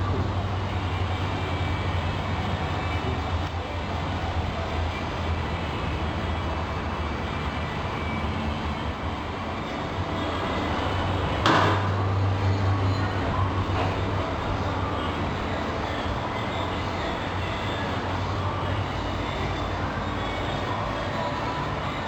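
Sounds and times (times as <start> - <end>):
mechanical rumble and hiss: 0.0 - 22.0.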